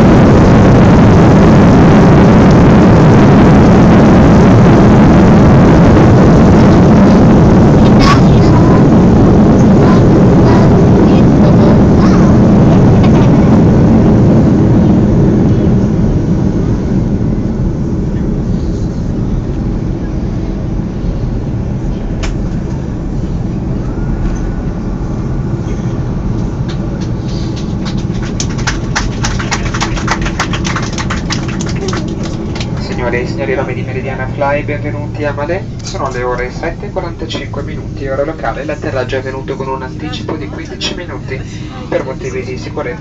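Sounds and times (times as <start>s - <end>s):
jet engines rumbling: 0.0s - 43.0s.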